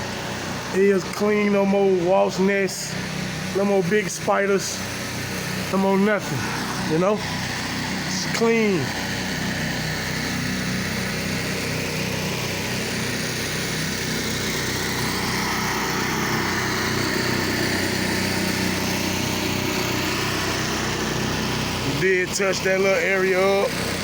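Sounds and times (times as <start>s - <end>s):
pressure washer engine running: 0.0s - 24.0s.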